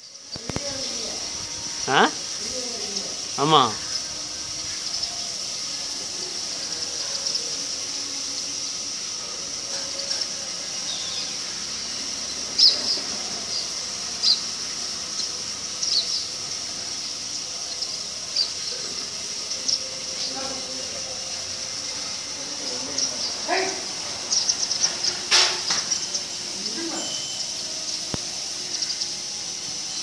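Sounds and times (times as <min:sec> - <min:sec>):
sparrows chirping: 0:00.0 - 0:30.0
steady high hiss: 0:00.0 - 0:30.0.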